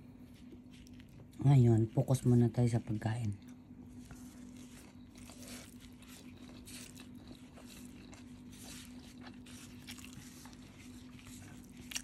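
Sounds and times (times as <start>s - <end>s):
faint steady hum: 0.0s - 12.0s
person chewing: 0.3s - 1.4s, 3.3s - 12.0s.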